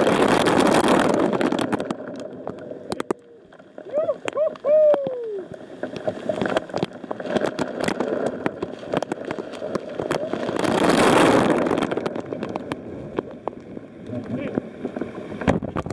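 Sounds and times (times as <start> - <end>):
falling water rushing: 0.0 - 15.5.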